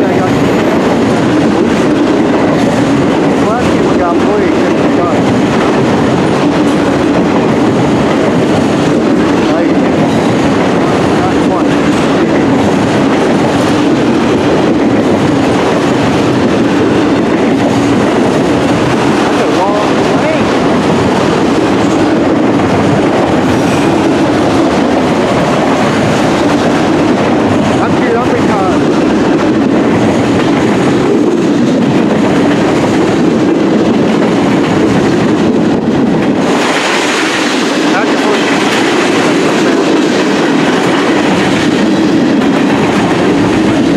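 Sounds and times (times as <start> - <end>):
freight train rumbling on rails: 0.0 - 43.9.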